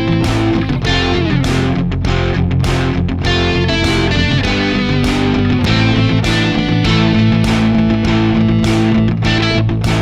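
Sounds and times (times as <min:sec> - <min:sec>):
rock music with distorted guitar: 0:00.0 - 0:10.0.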